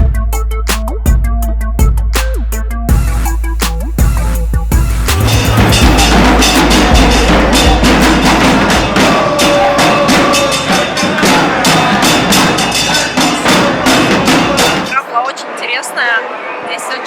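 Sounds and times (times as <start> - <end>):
loud music with percussion beat: 0.0 - 15.0.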